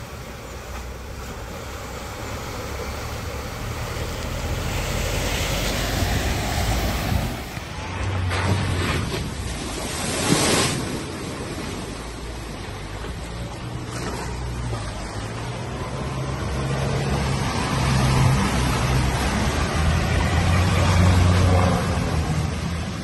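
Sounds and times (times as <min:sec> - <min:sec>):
heavy splash: 0:00.0 - 0:23.0
water sloshing and rushing: 0:00.0 - 0:23.0.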